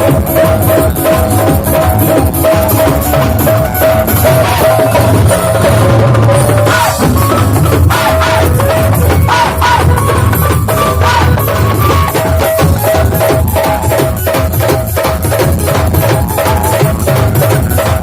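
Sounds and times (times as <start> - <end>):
drum kit and percussion: 0.0 - 18.0
melody of clipped notes: 0.0 - 18.0.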